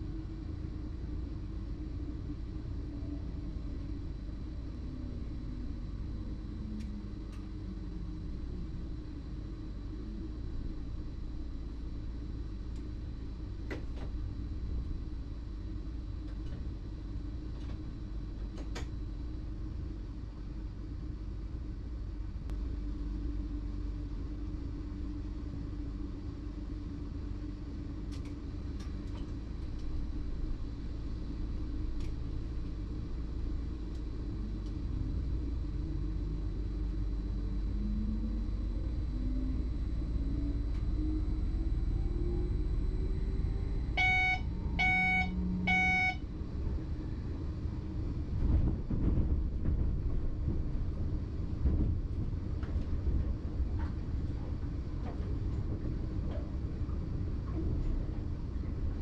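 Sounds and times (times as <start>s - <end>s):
train running rumble and hum: 0.0s - 59.0s.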